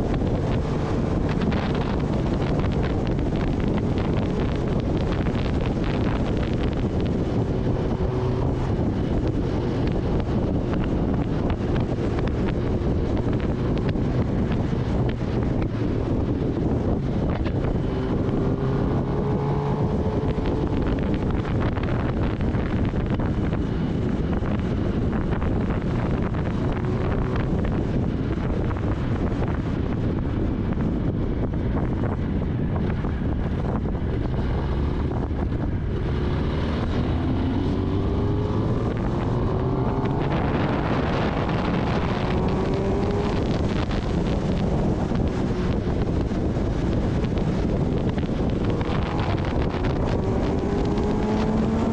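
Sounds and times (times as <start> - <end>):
motorcycle engine running: 0.0 - 51.9
wind buffeting microphone: 0.0 - 51.9.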